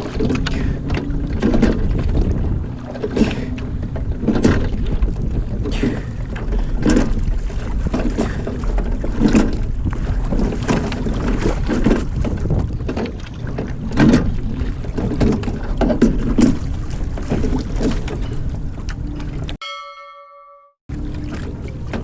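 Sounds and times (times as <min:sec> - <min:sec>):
oars splashing in water: 0:00.0 - 0:19.6, 0:20.9 - 0:22.0
wind rumble on microphone: 0:00.0 - 0:19.6.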